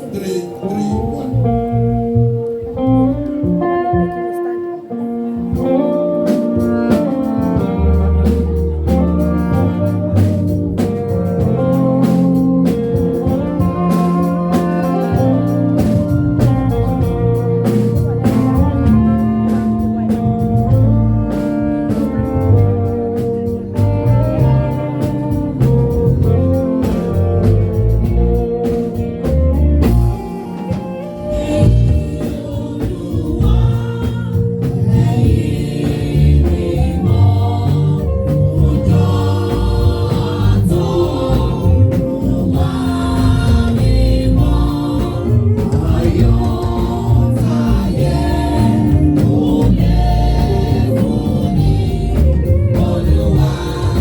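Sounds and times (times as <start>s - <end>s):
choir singing a gospel hymn: 0.0s - 54.0s
instrumental accompaniment with bass beat: 0.0s - 54.0s.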